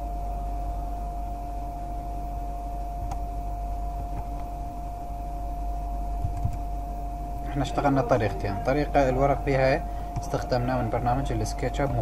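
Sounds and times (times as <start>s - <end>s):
background hum and hiss: 0.0s - 12.0s
constant whine: 0.0s - 12.0s.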